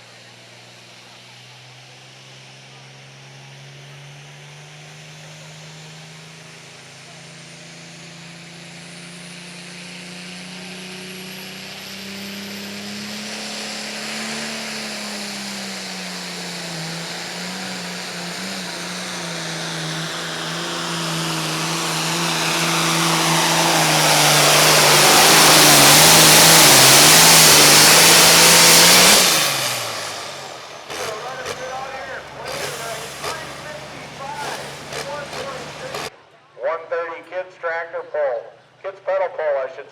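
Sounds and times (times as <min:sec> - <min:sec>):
diesel tractor engine under load: 0:00.0 - 0:36.2.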